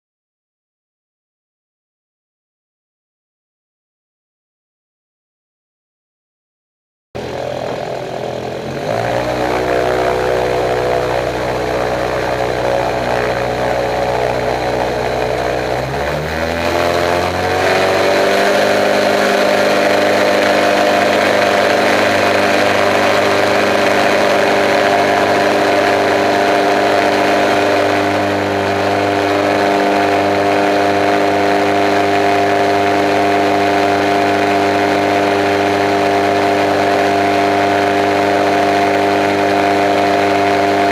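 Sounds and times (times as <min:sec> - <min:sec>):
light aircraft engine and propeller: 0:07.2 - 0:40.9.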